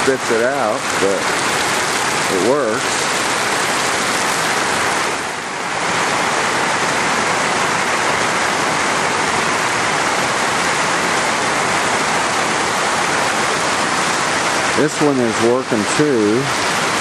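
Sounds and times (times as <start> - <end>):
heavy rain: 0.0 - 17.0
water gushing from gutter drain: 0.0 - 17.0.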